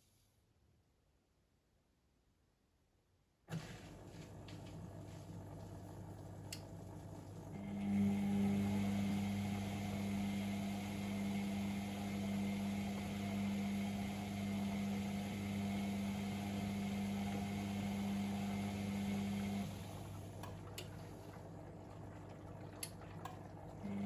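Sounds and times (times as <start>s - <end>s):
washing machine humming: 3.5s - 24.0s.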